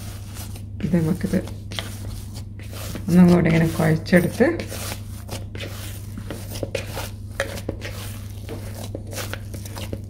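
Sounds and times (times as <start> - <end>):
dough squeezes and slaps: 0.0 - 10.0.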